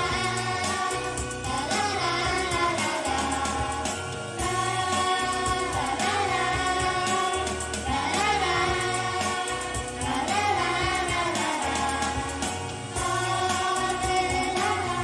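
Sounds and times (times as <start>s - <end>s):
backing track with pulsing bass: 0.0s - 15.0s
women singing pop song: 0.0s - 15.0s.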